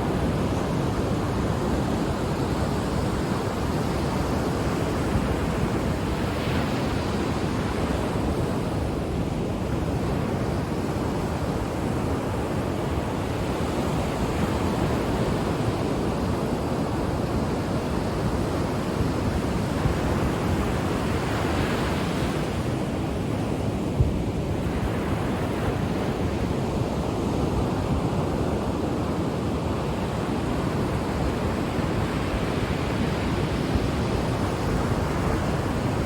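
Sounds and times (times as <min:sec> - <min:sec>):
ocean waves washing on shore: 0:00.0 - 0:36.0
wind on microphone: 0:00.0 - 0:36.0.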